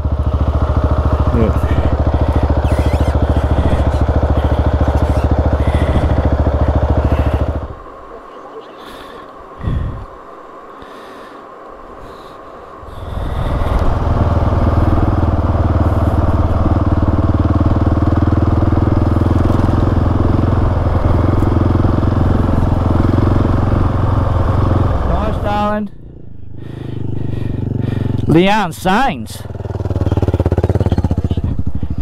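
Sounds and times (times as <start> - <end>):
motorcycle engine pulling away: 0.0 - 7.8, 12.9 - 28.3, 29.3 - 32.0.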